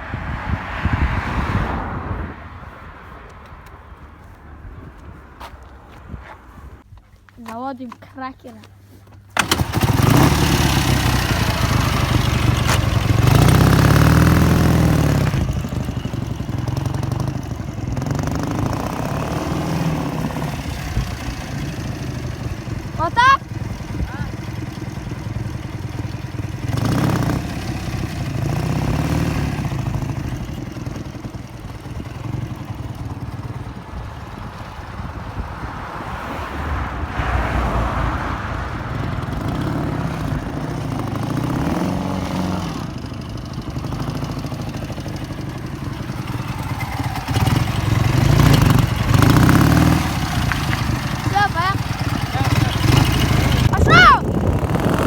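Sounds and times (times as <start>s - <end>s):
motorcycle engine revving: 9.4s - 55.0s.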